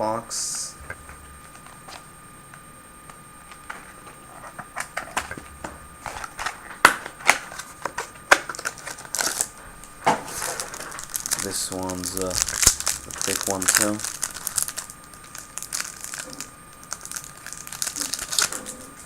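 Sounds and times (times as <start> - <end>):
packaging rustle: 0.9 - 2.1, 3.1 - 19.0
card packaging clicks and crinkles: 0.9 - 19.0
packaging snapping: 3.1 - 19.0.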